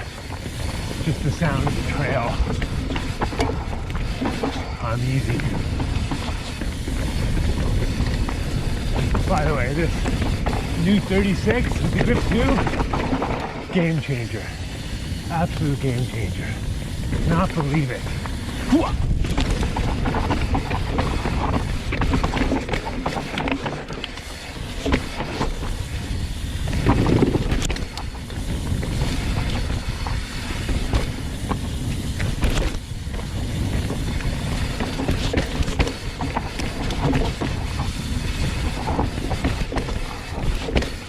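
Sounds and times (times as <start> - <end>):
bike rattling over bumps: 0.0 - 41.0
wind and tyres on dirt: 0.0 - 41.0.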